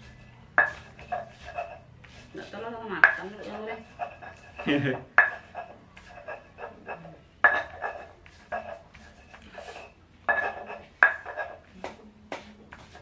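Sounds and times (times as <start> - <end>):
stone pestle knocking and grinding: 0.0 - 13.0.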